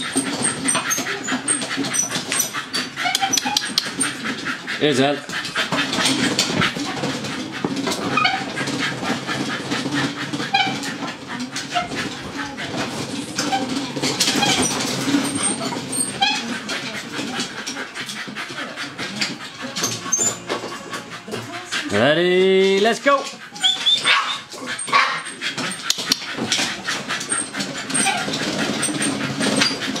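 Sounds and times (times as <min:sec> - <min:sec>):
dog treadmill clattering: 0:00.0 - 0:30.0
dog whining: 0:00.0 - 0:30.0.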